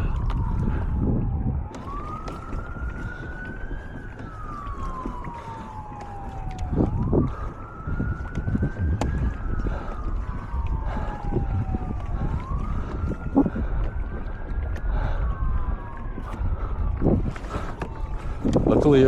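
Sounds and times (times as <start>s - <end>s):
distant siren wailing: 0.0s - 19.0s
wind noise on microphone: 0.0s - 19.0s.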